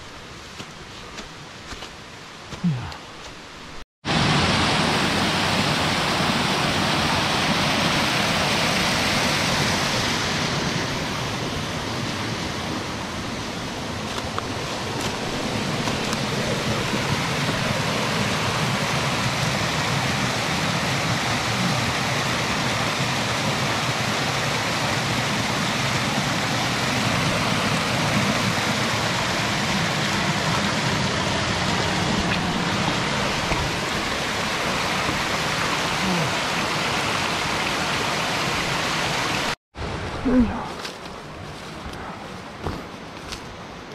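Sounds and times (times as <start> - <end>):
stream pouring over rocks: 4.1 - 43.4.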